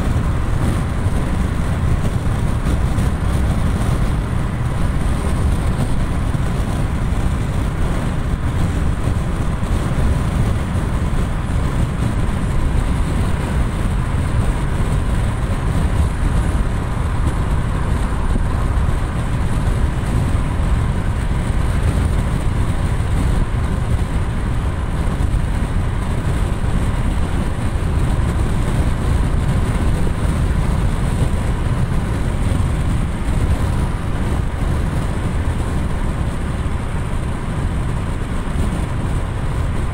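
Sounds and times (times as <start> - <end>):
car road noise inside cabin: 0.0 - 39.9.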